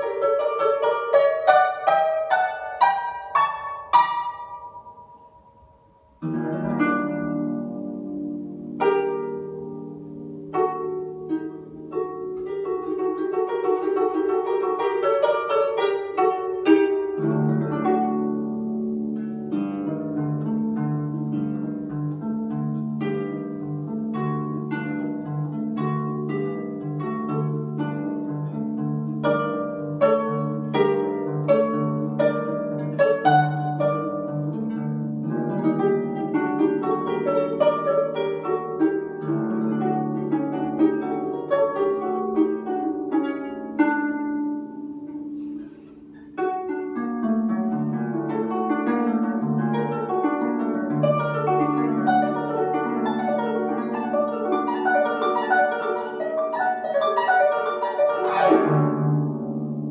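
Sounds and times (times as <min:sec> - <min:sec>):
solo harp playing: 0:00.0 - 0:59.9.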